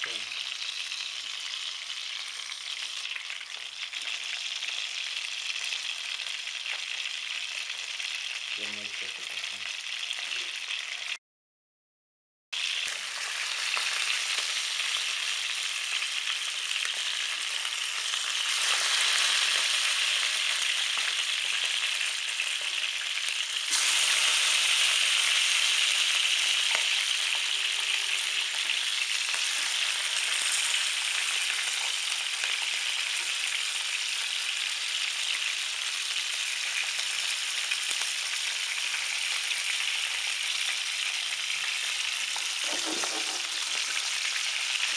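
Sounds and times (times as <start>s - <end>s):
sausages sizzling in frying pan: 0.0s - 11.2s, 12.6s - 44.9s.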